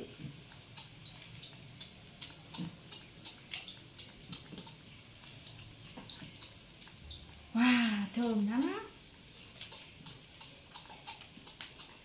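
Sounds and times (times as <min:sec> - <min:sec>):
hot oil crackling in frying pan: 0:00.0 - 0:12.0.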